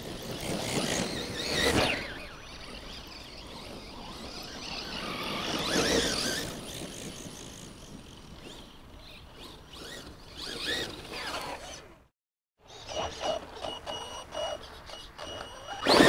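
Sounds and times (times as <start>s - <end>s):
electric motors whining: 0.0s - 12.0s, 12.7s - 16.0s.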